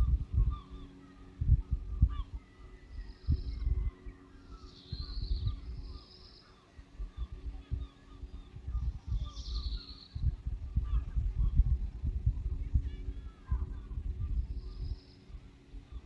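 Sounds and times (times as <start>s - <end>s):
faint bird calls: 0.0s - 16.0s
wind buffeting microphone: 0.0s - 16.0s.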